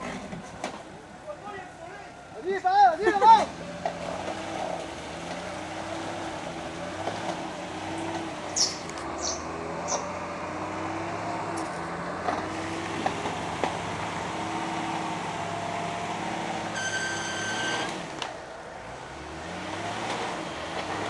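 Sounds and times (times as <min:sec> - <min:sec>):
engine running under load: 0:00.0 - 0:02.4, 0:03.0 - 0:21.0.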